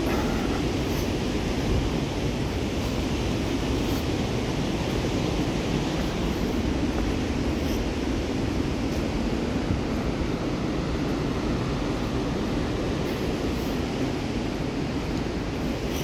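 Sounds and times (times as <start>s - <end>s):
river whitewater rushing: 0.0s - 16.0s
wind buffeting microphone: 0.0s - 16.0s.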